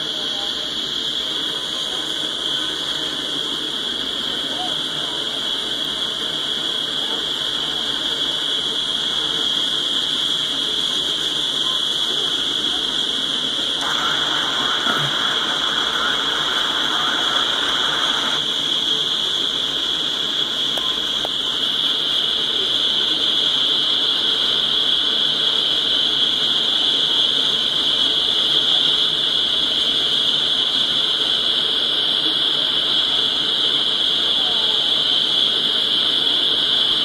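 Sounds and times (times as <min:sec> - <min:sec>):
high-pitched hiss: 0:00.0 - 0:37.0
train wheels rolling on rails: 0:00.0 - 0:37.0.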